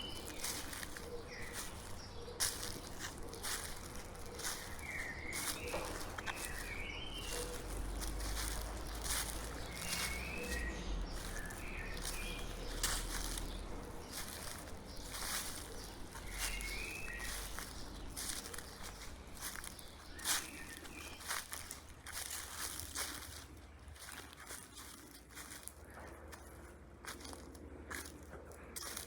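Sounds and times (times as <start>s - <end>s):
footsteps crunching dry leaves: 0.0s - 29.0s
songbird chirping: 0.0s - 29.0s.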